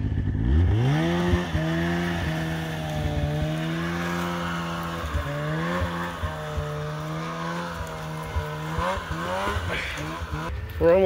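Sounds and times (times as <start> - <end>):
snowmobile engine revving: 0.0 - 10.6.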